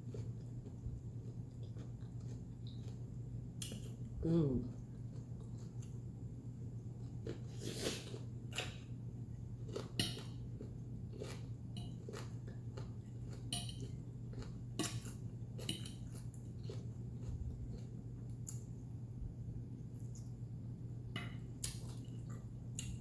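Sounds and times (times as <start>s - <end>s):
person chewing: 0.0s - 6.1s, 6.8s - 18.8s, 21.5s - 23.0s
steady low hum: 0.0s - 23.0s.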